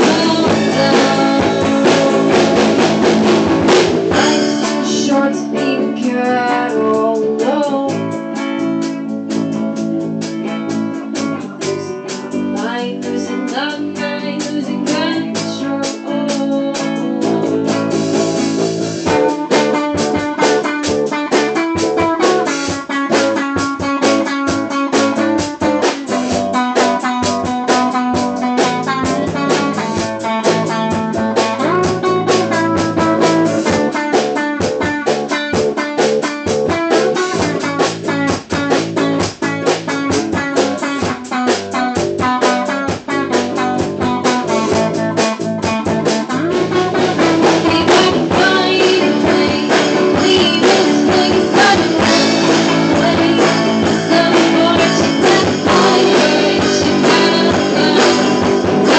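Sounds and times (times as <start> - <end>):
bass guitar: 0.0 - 58.9
drums: 0.0 - 58.9
electric guitar melody: 0.0 - 58.9.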